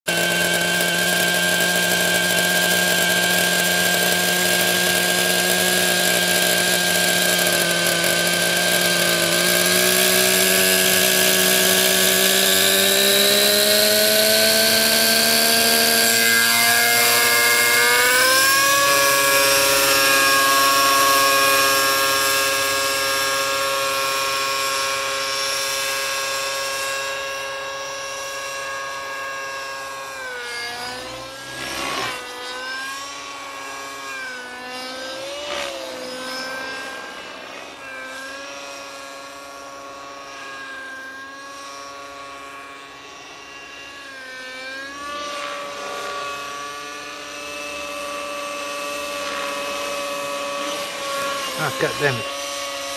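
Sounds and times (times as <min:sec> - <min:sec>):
model helicopter engine whining: 0:00.0 - 0:52.9.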